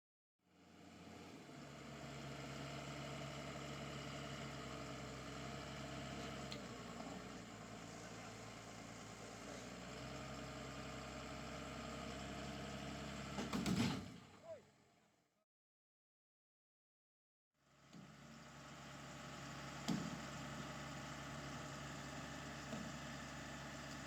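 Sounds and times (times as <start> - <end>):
motor grader engine running: 0.5 - 14.4, 17.8 - 24.0.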